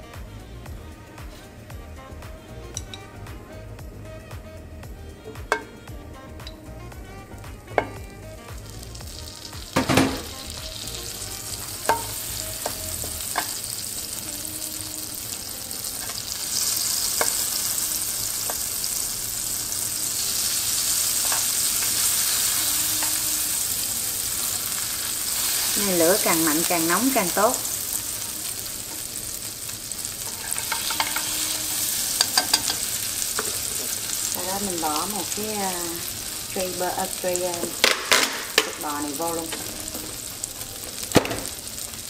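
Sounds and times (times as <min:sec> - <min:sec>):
butter sizzling in frying pan: 0:00.0 - 0:42.0
chopsticks tapping pan: 0:05.2 - 0:06.7, 0:07.6 - 0:14.2, 0:15.7 - 0:41.9.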